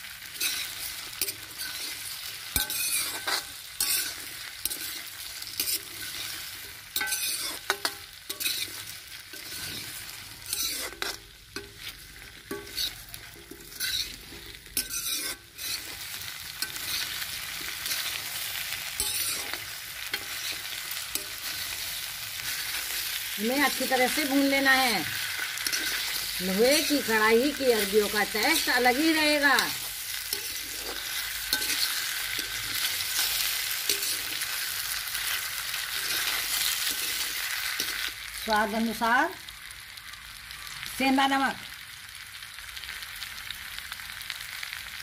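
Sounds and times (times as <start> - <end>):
vegetables sizzling in hot oil: 0.0 - 45.0
steel spoon scraping pan: 0.2 - 38.2.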